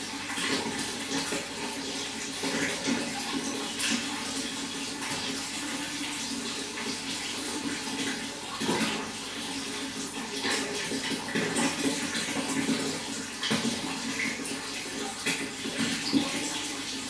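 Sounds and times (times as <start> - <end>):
running water splashing: 0.0 - 17.0.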